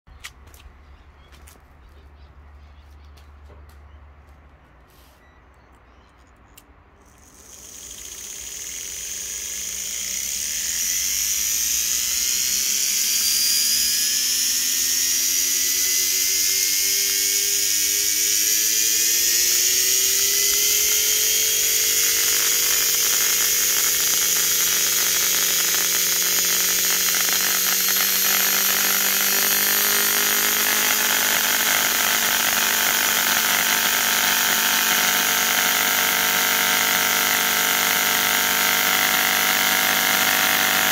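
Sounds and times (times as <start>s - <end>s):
motor high-pitched whine: 7.0s - 40.9s.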